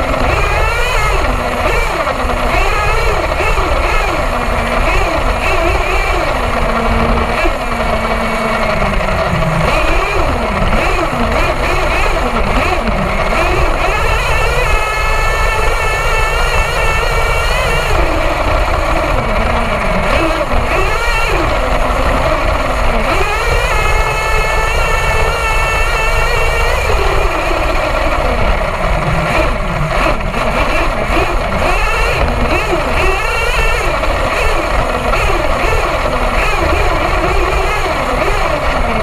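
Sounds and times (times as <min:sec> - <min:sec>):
rc truck engine revving: 0:00.0 - 0:39.0.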